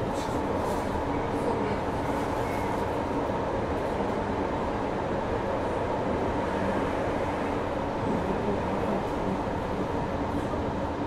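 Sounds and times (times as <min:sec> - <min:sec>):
train rolling noise: 0:00.0 - 0:11.0.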